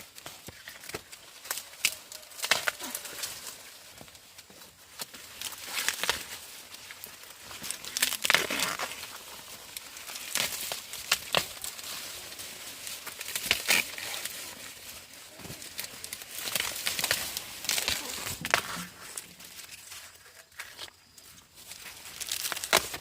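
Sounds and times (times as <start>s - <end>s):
dry vegetation rustling and crackling: 0.0s - 23.0s.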